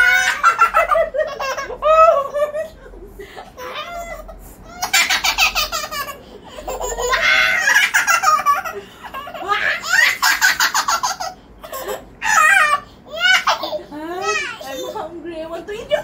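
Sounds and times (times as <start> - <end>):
small child laughing: 0.0 - 15.0.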